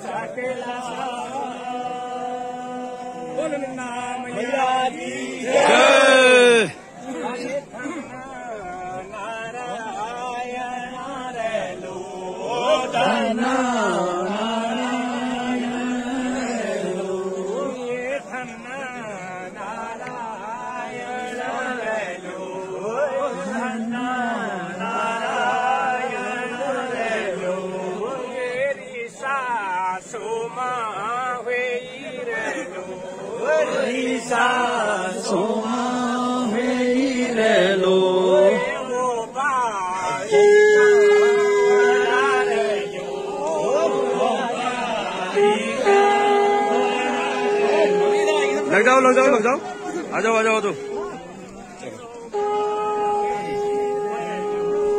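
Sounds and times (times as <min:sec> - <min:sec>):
men singing folk chant: 0:00.0 - 0:54.9.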